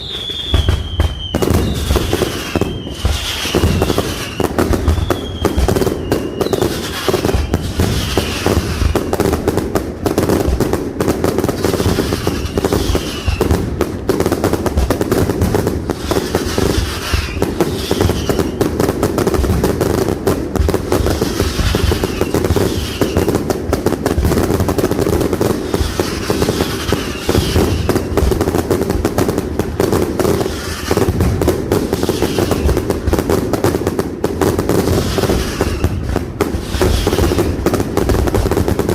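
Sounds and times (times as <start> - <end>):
falling firework whistles: 0.0 - 9.6, 11.4 - 20.0, 20.6 - 33.7, 34.6 - 38.9
fireworks bangs and crackling: 0.0 - 38.9.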